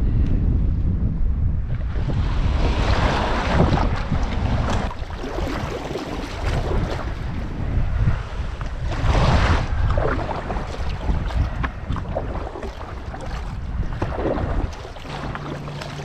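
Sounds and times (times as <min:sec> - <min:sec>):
wind buffeting microphone: 0:00.0 - 0:16.0
water splashing around kayak: 0:01.7 - 0:16.0.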